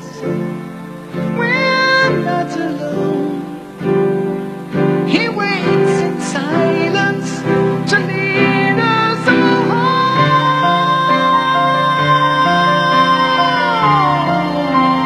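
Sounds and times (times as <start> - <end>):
man singing high gliding notes: 0.0 - 15.0.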